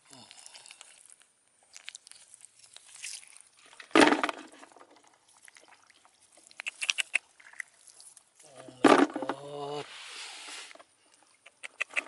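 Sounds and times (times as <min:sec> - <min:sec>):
rustling: 0:00.4 - 0:11.3.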